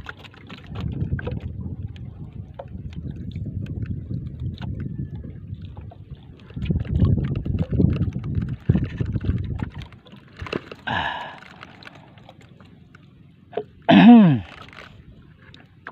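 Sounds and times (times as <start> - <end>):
low rumble of water and wind: 0.0 - 15.9.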